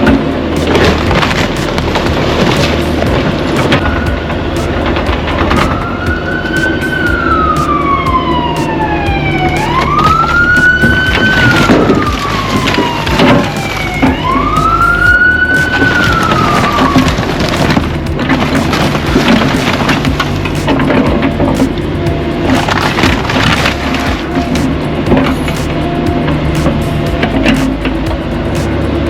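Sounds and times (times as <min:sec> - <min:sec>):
siren wailing: 0:00.0 - 0:28.6
engine running: 0:00.0 - 0:29.0.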